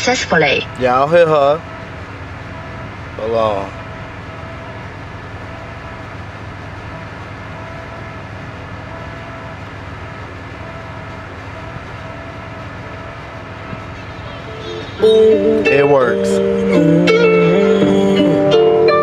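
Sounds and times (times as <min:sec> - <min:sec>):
low rumble inside a car: 0:00.0 - 0:19.0.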